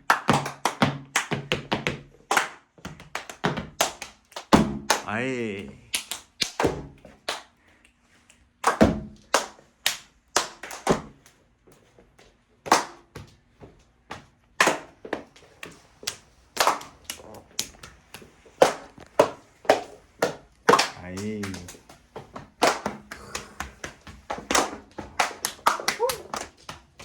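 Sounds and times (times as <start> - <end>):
hand claps and body hits: 0.0 - 5.2, 5.8 - 11.4, 12.6 - 13.3, 14.1 - 27.0.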